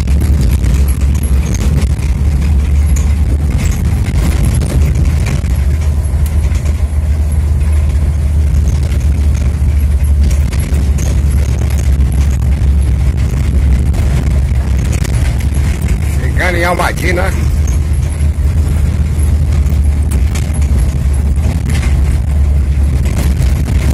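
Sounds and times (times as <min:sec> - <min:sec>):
rattles and knocks: 0:00.0 - 0:23.9
vehicle rumbling on dirt road: 0:00.0 - 0:23.9.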